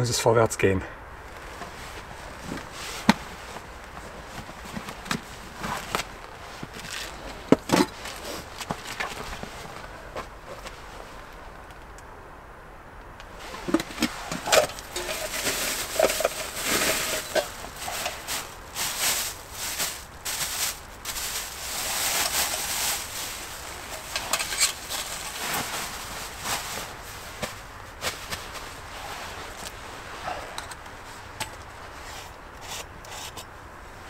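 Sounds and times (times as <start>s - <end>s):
rustling of camp gear: 1.2s - 12.0s, 13.2s - 33.5s.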